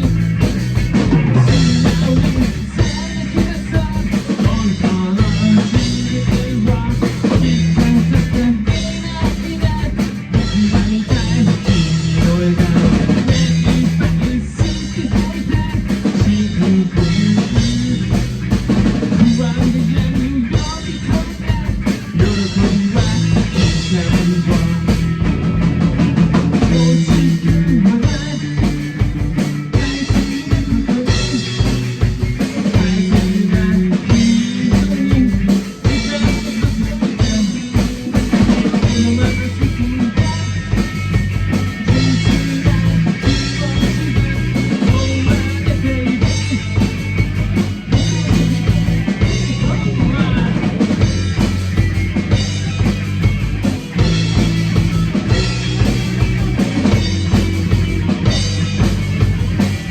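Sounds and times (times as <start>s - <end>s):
drum kit beat: 0.0s - 59.9s
held bass notes: 0.0s - 59.9s
rock music: 0.0s - 59.9s.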